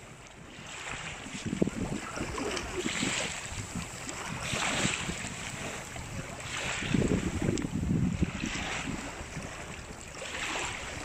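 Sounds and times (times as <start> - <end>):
small waves lapping on ice and pebbles: 0.0 - 11.0.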